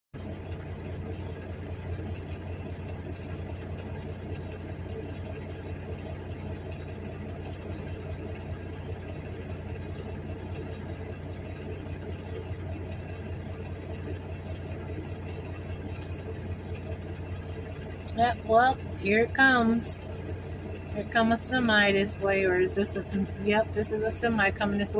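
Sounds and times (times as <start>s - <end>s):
car engine idling: 0.2s - 24.9s.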